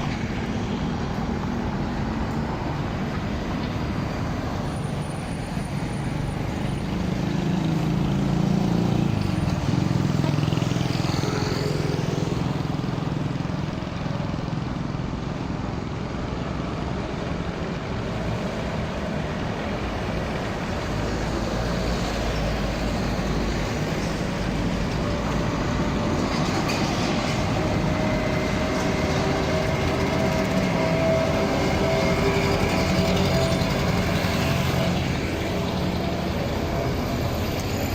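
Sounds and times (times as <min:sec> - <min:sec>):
traffic engine rumble: 0:00.0 - 0:37.9.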